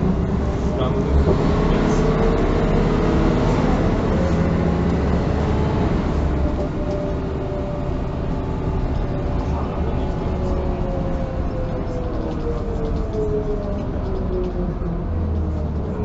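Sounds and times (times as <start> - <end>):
bus diesel engine drone: 0.0 - 16.0.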